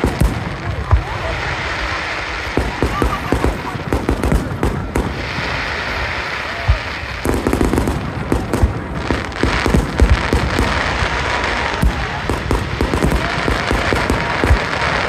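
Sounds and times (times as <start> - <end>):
fireworks booming and crackling: 0.0 - 15.0.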